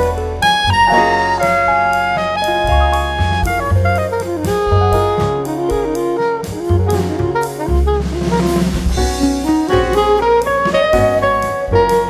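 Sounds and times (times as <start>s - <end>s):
jazz music with saxophone: 0.0s - 12.0s.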